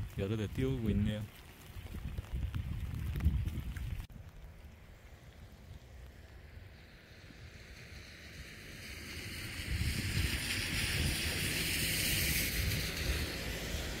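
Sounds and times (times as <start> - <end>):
wind buffeting microphone: 0.0 - 4.4, 7.2 - 14.0.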